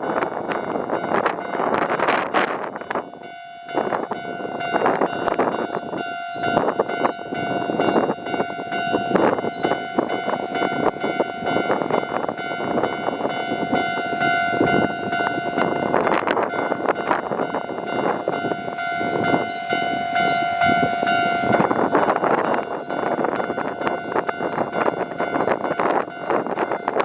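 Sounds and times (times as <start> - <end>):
steady pitched tone: 0.0 - 27.0.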